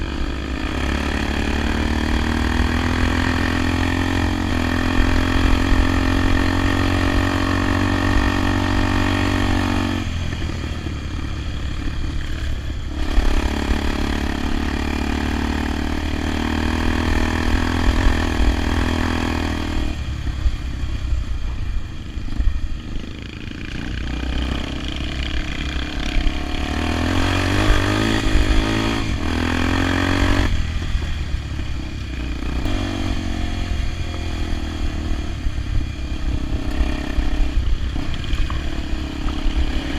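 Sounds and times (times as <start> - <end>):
motorcycle engine changing pitch: 0.0 - 39.9.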